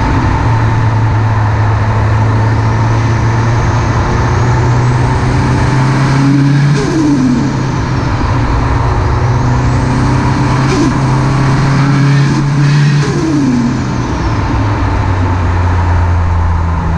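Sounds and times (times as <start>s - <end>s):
turbocharged engine revving: 0.0s - 16.9s.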